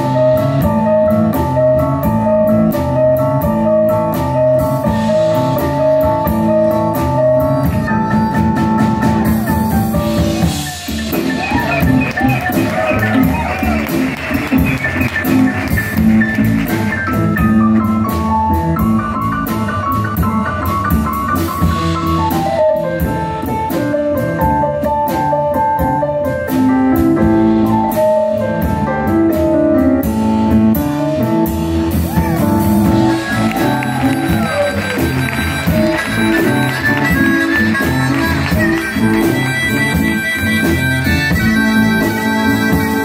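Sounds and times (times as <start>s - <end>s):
double bass: 0.0s - 43.0s
drums: 0.0s - 43.0s
upright piano: 0.0s - 43.0s.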